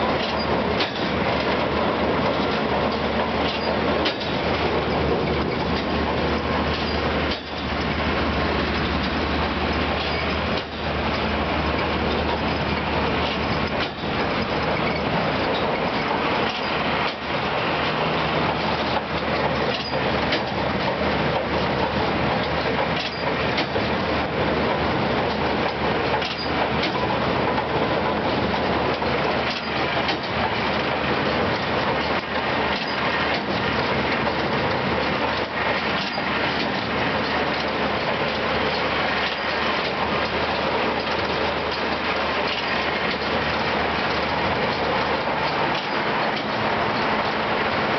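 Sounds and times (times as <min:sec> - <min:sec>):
baler mechanical clatter: 0:00.0 - 0:47.9.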